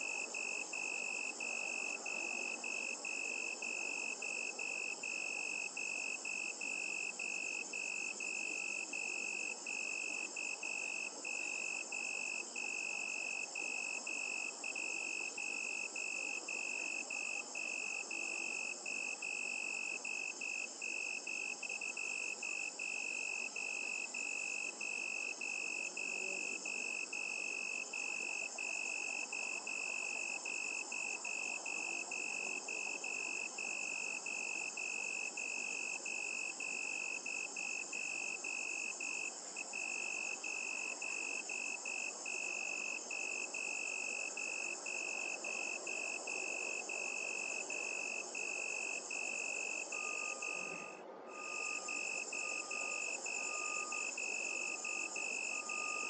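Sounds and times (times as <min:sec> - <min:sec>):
crickets trilling: 0:00.0 - 0:56.0
faint background hiss: 0:00.0 - 0:56.0.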